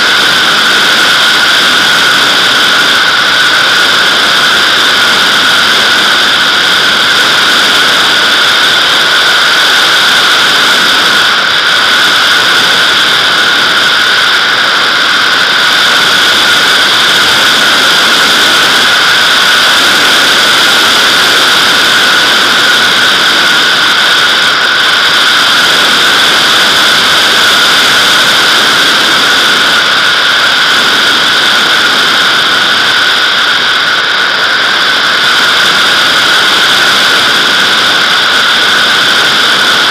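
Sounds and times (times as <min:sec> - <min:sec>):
wind hissing over glider: 0:00.0 - 0:39.9.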